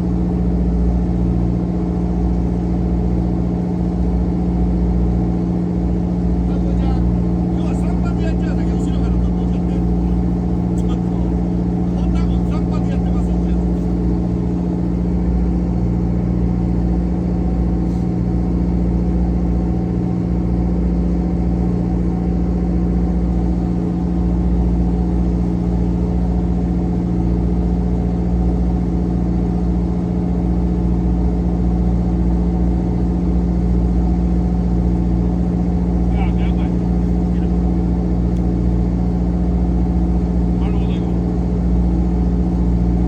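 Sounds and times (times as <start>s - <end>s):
boat engine humming: 0.0s - 43.0s.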